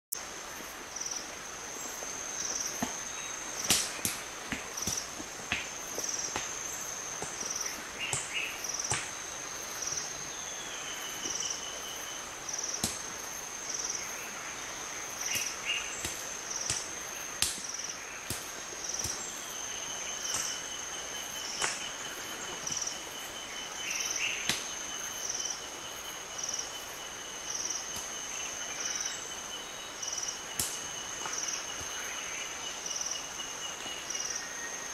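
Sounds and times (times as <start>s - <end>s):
high insect drone: 0.2s - 34.9s
pulsing insect call: 0.5s - 34.9s.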